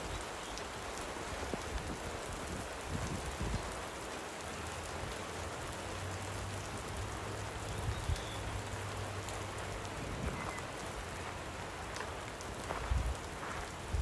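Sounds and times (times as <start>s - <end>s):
light rain falling: 0.0s - 14.0s
raindrops ticking: 0.0s - 14.0s.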